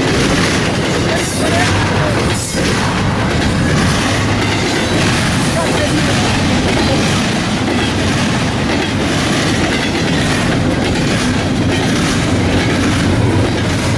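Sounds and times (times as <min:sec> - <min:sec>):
train wheels clacking over rail joints: 0:00.0 - 0:13.9.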